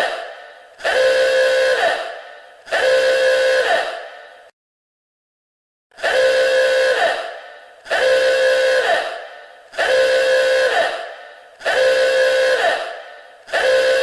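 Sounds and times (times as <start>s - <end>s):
alarm horn blasts: 0.0s - 4.5s, 6.0s - 14.0s.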